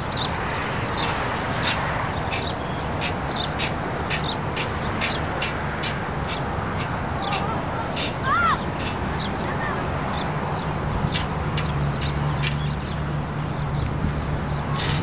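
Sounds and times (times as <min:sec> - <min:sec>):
small birds chirping: 0:00.0 - 0:05.6, 0:06.2 - 0:14.8.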